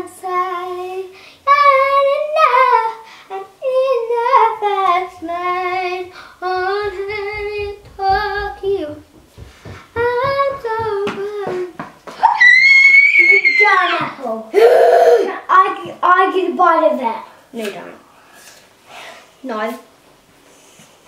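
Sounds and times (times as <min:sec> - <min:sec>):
girl singing unaccompanied: 0:00.0 - 0:17.8.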